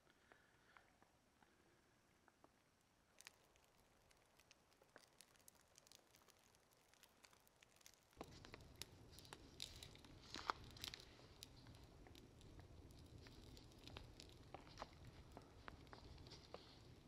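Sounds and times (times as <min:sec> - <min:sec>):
twig campfire crackling: 0:03.1 - 0:17.0.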